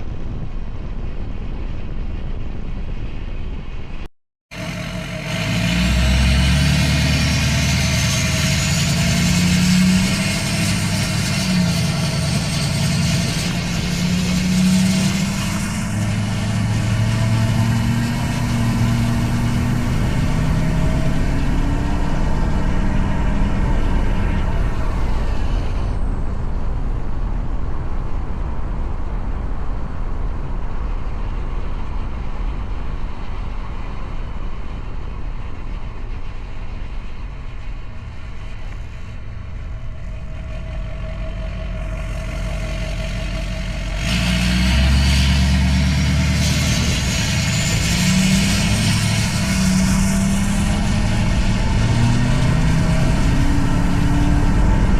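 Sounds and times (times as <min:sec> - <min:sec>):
diesel engine through open exhaust: 0:00.0 - 0:54.9.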